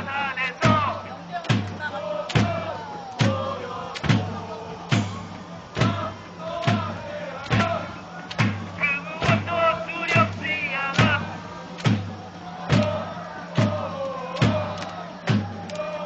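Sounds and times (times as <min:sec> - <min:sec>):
big drum beating: 0:00.0 - 0:16.0
football supporters chanting: 0:00.0 - 0:16.0.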